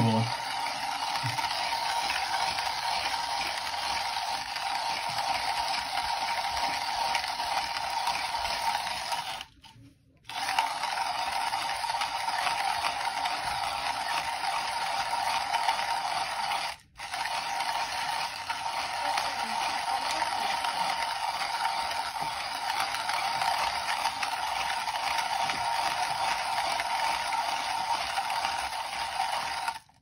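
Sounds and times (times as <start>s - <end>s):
hand coffee grinder grinding: 0.0s - 30.0s.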